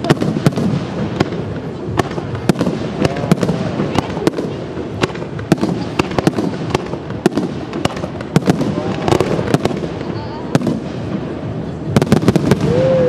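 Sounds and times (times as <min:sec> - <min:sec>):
low rumble of explosions: 0:00.0 - 0:13.0.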